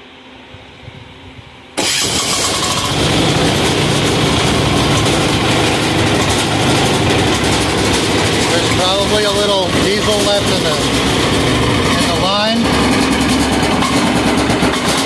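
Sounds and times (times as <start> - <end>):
diesel engine starting and running: 1.7 - 15.0.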